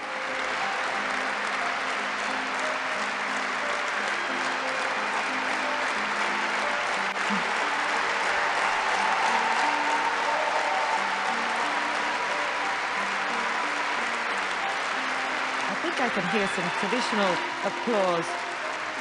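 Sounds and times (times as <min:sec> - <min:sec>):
large audience applauding: 0:00.0 - 0:19.0.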